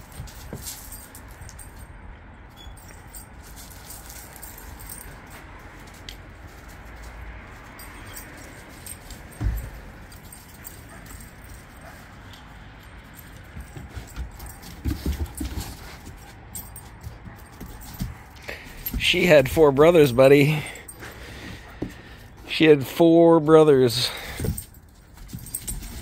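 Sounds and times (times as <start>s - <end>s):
collar tags jingling: 0.0s - 26.0s.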